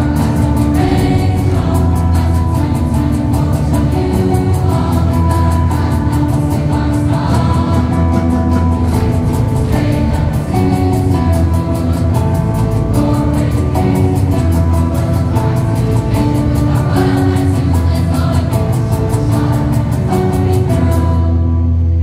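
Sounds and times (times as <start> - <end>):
choir singing: 0.0 - 21.9
pop accompaniment with heavy bass: 0.0 - 22.0.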